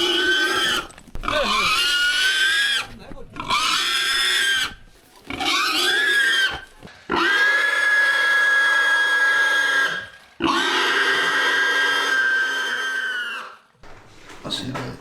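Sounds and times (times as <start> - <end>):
pig squealing: 0.0 - 13.7.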